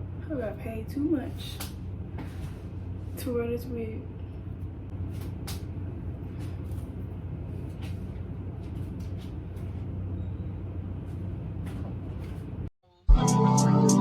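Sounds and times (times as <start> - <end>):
low mechanical hum: 0.0 - 12.7.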